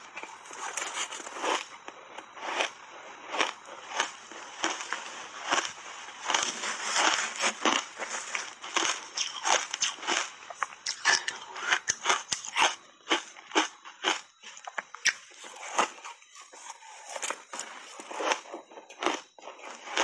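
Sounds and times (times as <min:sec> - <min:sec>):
crunching and chewing ice: 0:00.0 - 0:20.0.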